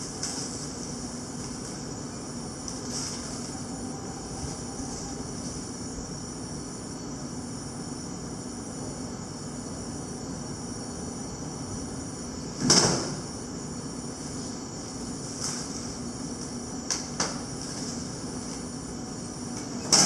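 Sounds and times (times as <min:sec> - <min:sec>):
background hum and hiss: 0:00.0 - 0:20.0.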